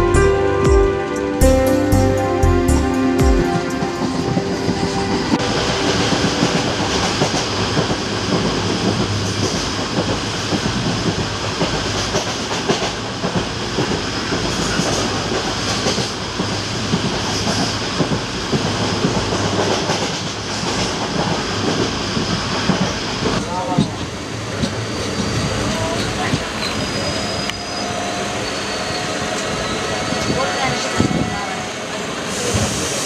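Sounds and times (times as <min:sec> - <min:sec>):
train coach rumble and rattle: 0:03.4 - 0:33.0.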